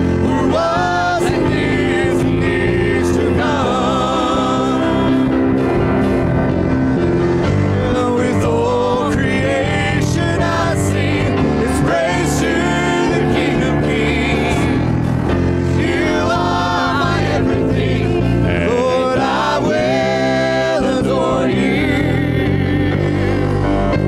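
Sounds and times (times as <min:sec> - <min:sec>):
people singing: 0:00.0 - 0:06.7, 0:07.4 - 0:24.0
worship band playing: 0:00.0 - 0:24.0.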